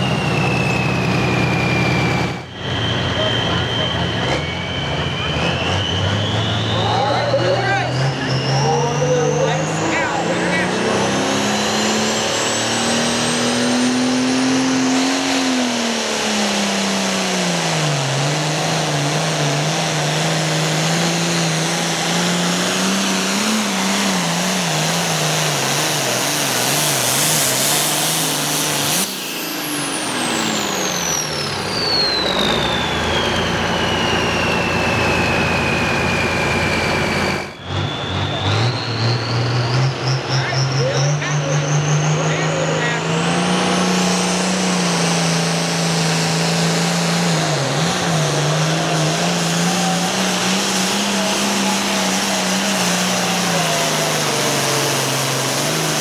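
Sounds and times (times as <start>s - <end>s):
tractor diesel engine under load: 0.0s - 56.0s
turbo whine winding down: 0.0s - 56.0s.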